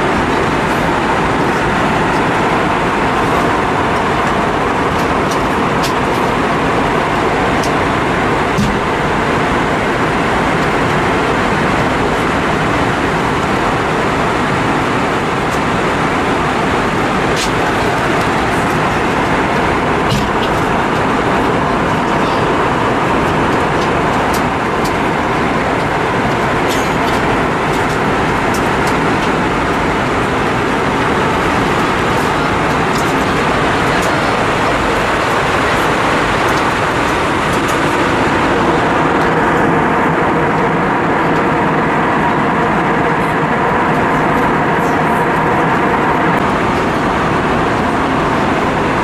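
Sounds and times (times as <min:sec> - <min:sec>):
airplane cabin engine rush: 0:00.0 - 0:49.0
faint hum: 0:00.0 - 0:49.0.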